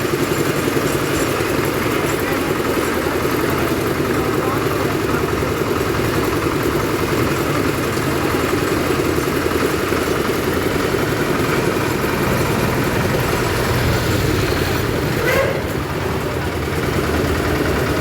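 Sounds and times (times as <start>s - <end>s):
concrete mixer engine running: 0.0s - 18.0s.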